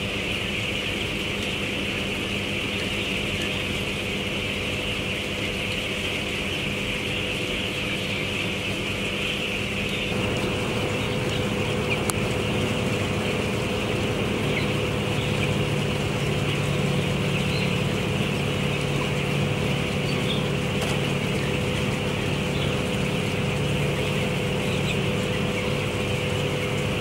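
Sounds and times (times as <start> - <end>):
flock of chickens calling: 0.0 - 27.0
ventilation fans humming: 0.0 - 27.0.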